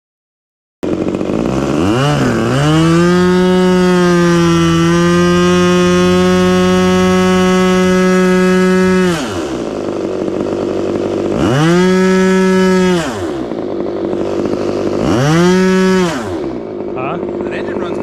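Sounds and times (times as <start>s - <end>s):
model aircraft engine revving: 0.8s - 18.0s.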